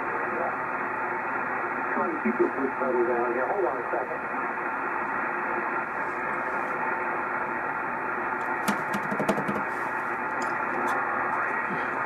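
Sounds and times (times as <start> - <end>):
radio static hiss: 0.0 - 7.6, 9.6 - 12.0.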